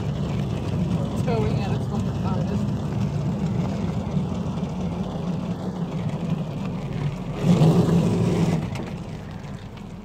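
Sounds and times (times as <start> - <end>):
riding lawn mower engine: 0.0 - 10.0.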